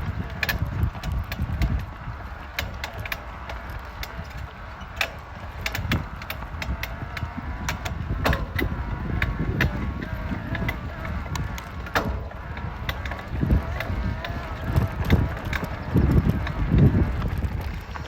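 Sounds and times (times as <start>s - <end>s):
bike clunking and clanking: 0.0s - 18.0s.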